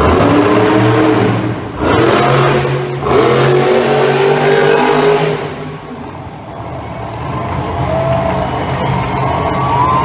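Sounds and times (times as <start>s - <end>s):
truck engine revving: 0.0s - 9.5s.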